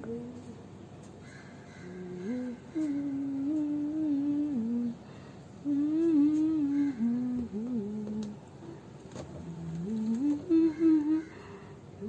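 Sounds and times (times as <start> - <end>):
person humming a tune: 0.0 - 0.6, 1.8 - 8.5, 9.4 - 12.0.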